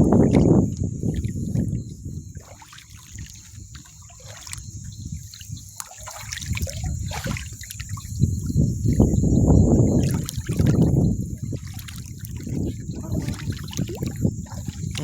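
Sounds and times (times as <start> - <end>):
shallow water sloshing: 0.0 - 15.0.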